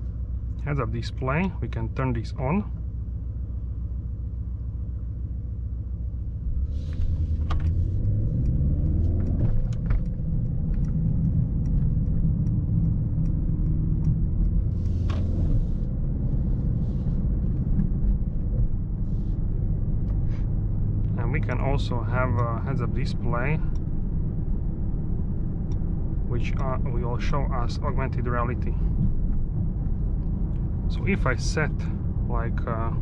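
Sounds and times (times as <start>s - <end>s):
car engine and road rumble: 0.0s - 33.0s.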